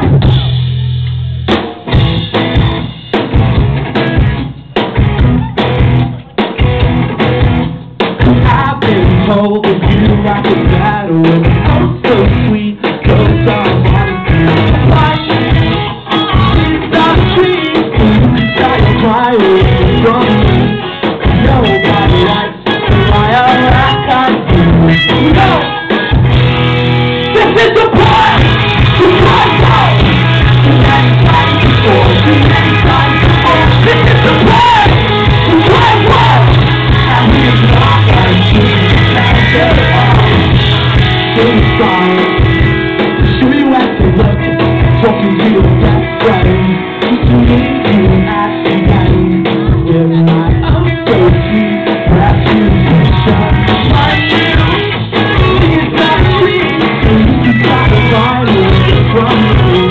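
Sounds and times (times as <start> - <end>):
drums: 0.0 - 59.9
rock band playing live: 0.0 - 59.9.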